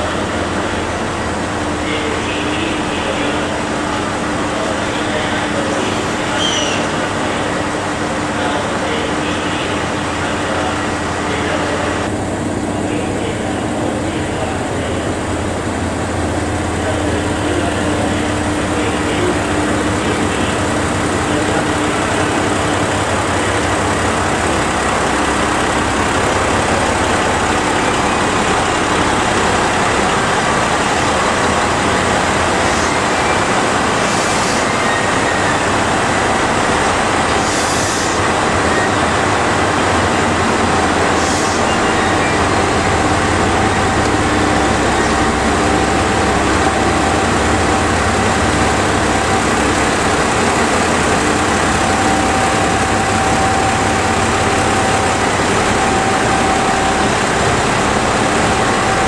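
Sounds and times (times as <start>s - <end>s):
diesel railcar engine running: 0.0s - 59.0s.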